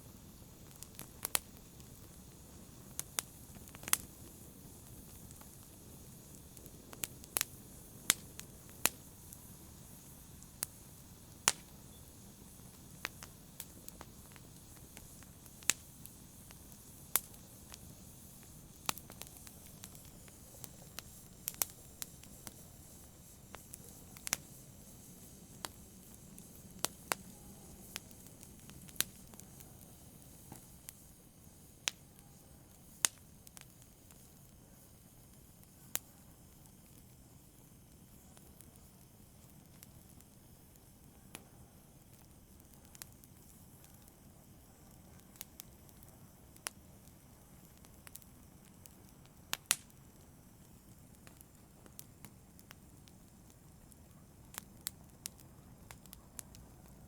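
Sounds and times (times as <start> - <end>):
soft steady hiss: 0.0 - 57.0
wood fire crackling in fireplace: 0.0 - 57.0.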